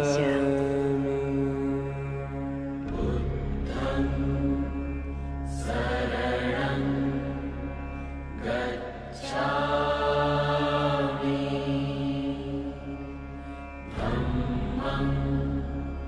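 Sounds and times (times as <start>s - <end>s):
low drone: 0.0s - 16.0s
slow sustained chanting: 0.0s - 16.0s.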